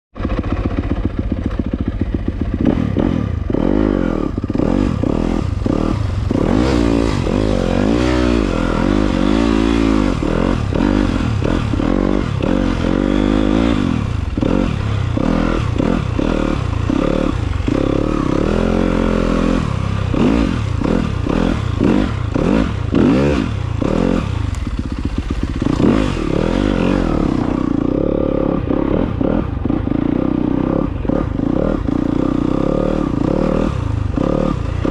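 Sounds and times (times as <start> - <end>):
dirt bike engine revving: 0.2 - 34.9.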